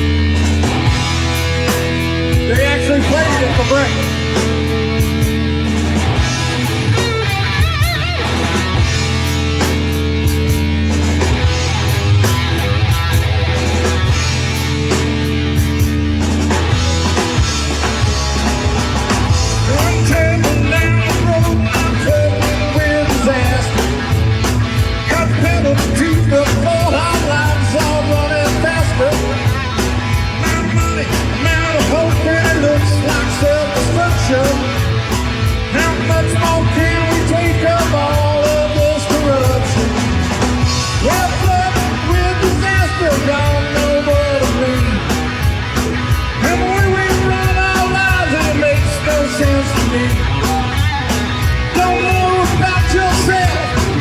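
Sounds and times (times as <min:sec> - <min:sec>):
electric guitar lead with bending notes: 0:00.0 - 0:54.0
live rock band playing: 0:00.0 - 0:54.0.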